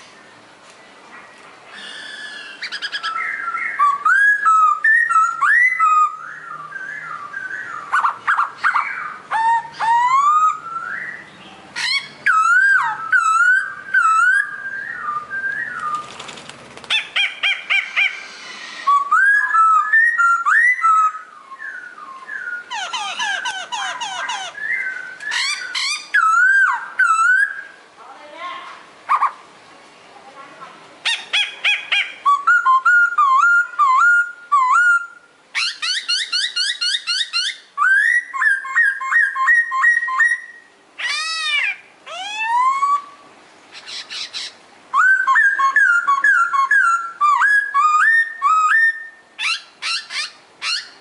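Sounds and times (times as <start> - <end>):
songbird singing: 0.0 - 51.0.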